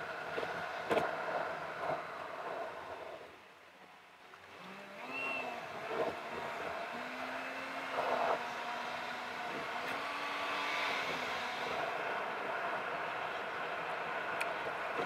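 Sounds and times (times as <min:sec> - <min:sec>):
sped-up car engine: 0:00.0 - 0:03.5, 0:04.4 - 0:15.0.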